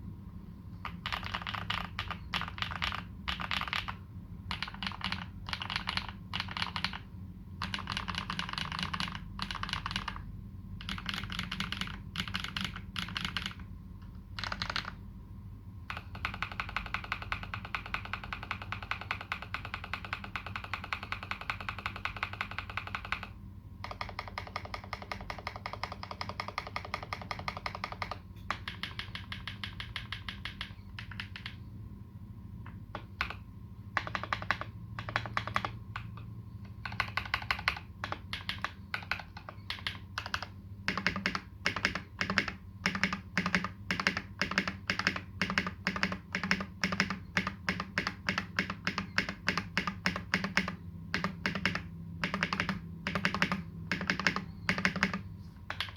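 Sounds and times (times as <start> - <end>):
mechanical keyboard typing: 0.8 - 15.0, 15.9 - 31.6, 32.6 - 55.9.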